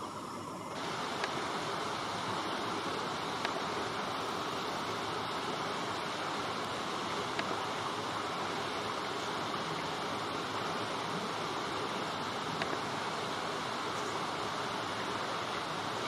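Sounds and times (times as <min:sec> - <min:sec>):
light rain on leaves: 0:00.7 - 0:16.0.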